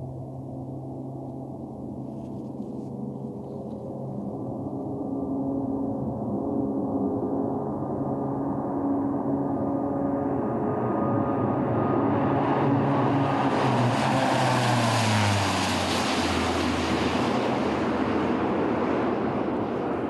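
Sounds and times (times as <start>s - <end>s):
turboprop plane drone passing: 0.0s - 20.0s.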